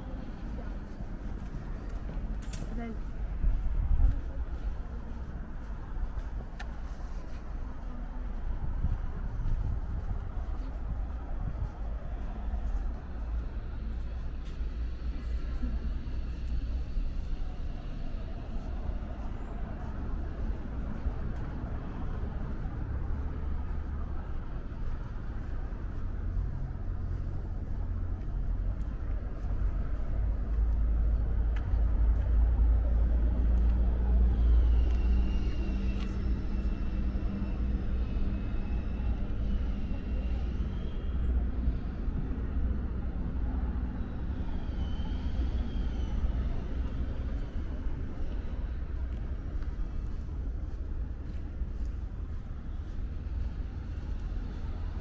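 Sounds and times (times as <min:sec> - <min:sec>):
motor traffic rumble: 0:00.0 - 0:55.0.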